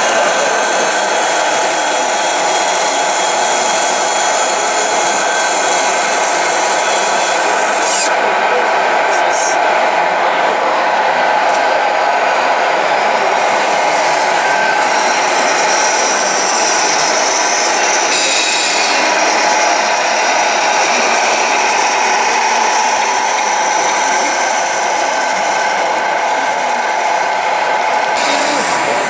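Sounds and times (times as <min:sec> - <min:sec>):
small electric motors whining: 0:00.0 - 0:08.2, 0:11.4 - 0:29.0.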